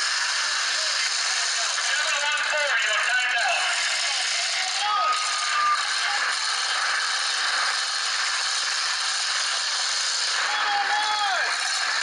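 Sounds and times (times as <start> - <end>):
unmuffled truck engines rattling: 0.0 - 12.0.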